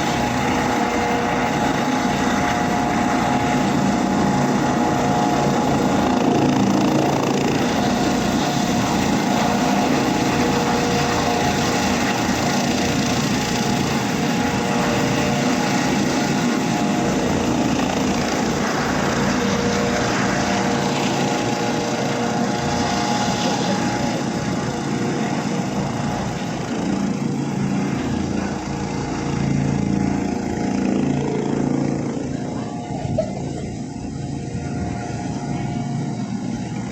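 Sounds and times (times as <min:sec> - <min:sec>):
helicopter engine and rotor drone: 0:00.0 - 0:36.9.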